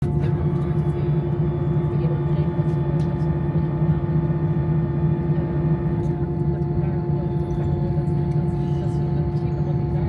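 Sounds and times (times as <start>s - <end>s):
aircraft cabin engine drone: 0.0s - 10.0s.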